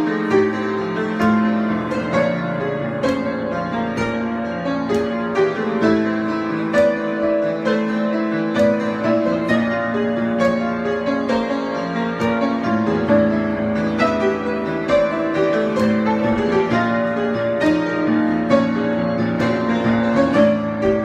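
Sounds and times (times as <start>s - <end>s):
piano improvisation: 0.0s - 21.0s.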